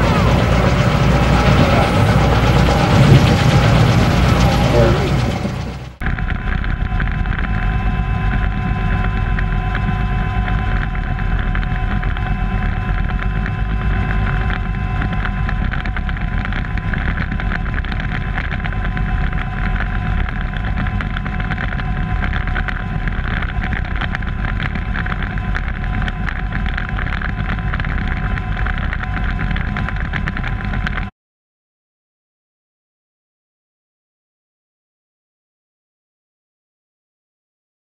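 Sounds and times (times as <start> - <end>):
helicopter turbine whine: 0.0 - 31.0
helicopter rotors thrumming: 0.0 - 31.1.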